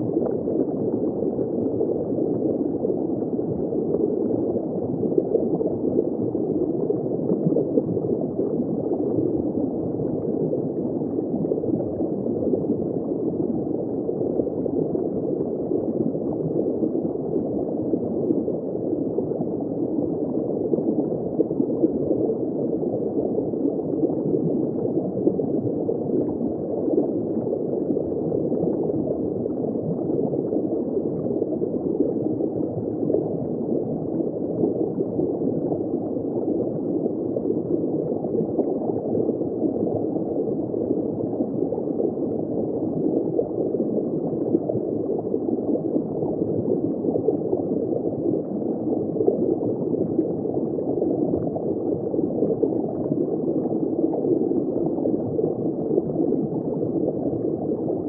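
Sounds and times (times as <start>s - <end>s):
underwater bubbling and gurgling: 0.0s - 58.0s.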